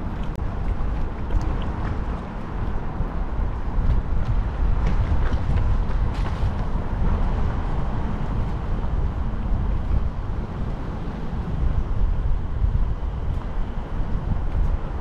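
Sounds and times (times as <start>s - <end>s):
low traffic rumble: 0.0s - 15.0s
wind buffeting microphone: 0.0s - 15.0s.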